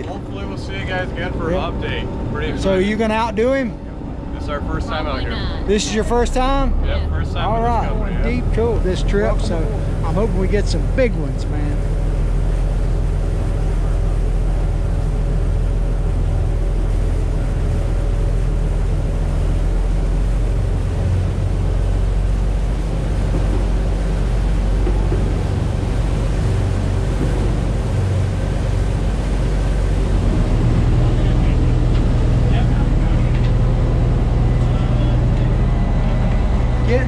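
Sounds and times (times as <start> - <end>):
boat engines droning: 0.0 - 37.0.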